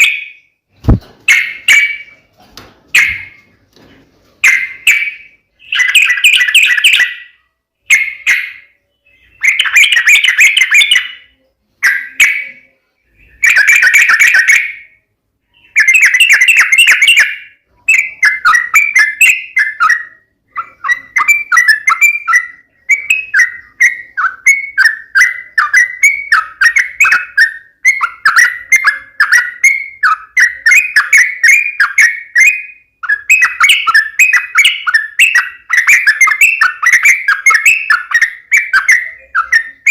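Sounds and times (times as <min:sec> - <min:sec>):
bulbul song: 0:00.0 - 0:02.3, 0:04.4 - 0:39.9.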